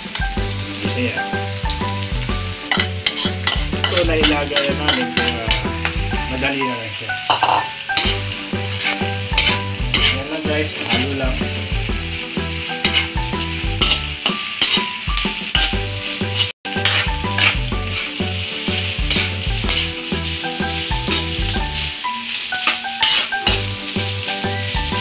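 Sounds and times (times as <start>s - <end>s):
background music with bass line: 0.0s - 6.5s, 8.0s - 14.2s, 15.6s - 21.9s, 23.5s - 25.0s
meat and onions sizzling in wok: 0.0s - 25.0s
spatula scraping wok: 0.0s - 25.0s.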